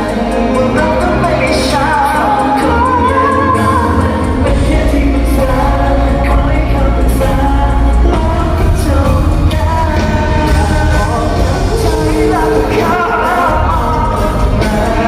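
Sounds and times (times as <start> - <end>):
heavy bass: 0.0 - 15.0
person singing: 0.0 - 15.0
pop band playing through pa: 0.0 - 15.0.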